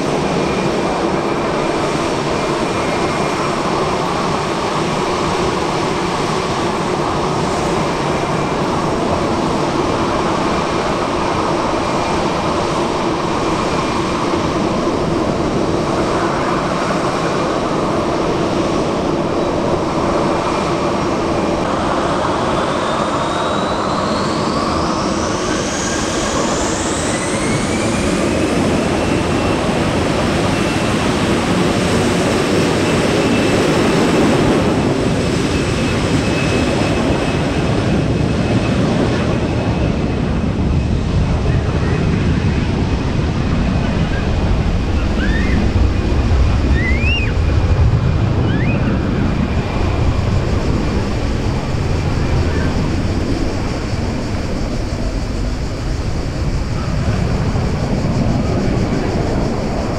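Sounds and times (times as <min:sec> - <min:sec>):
jet engines spooling up: 0:00.0 - 0:59.9.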